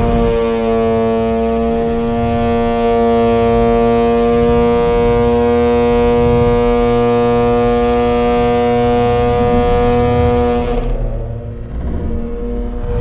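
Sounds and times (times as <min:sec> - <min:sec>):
car exhaust at high revs: 0:00.0 - 0:13.0
road rumble: 0:00.0 - 0:13.0
wind: 0:00.0 - 0:13.0.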